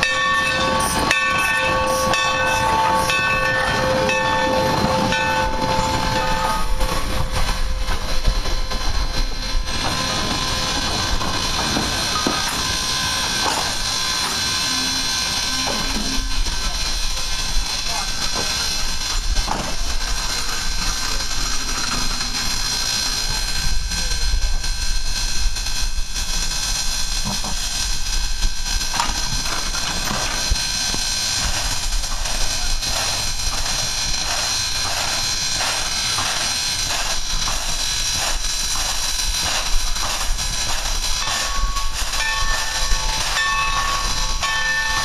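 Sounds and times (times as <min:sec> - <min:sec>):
locomotive low rumble: 0:00.0 - 0:45.0
steam hissing: 0:00.0 - 0:45.0.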